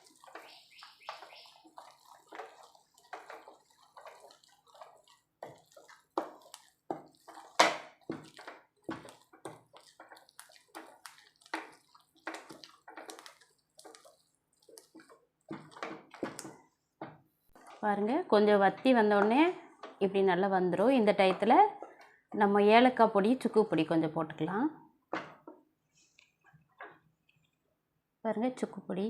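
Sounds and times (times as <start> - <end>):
thick dough stirred in a pan: 0.0 - 24.4.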